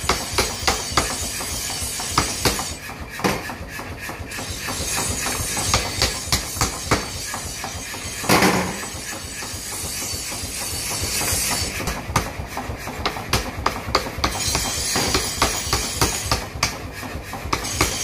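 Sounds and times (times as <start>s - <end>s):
mechanical power hammer running: 0.0s - 18.0s.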